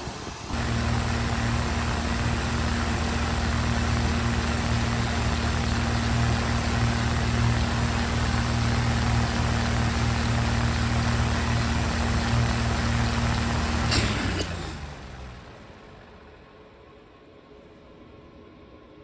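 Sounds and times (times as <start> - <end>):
heat pump running: 0.0 - 16.6.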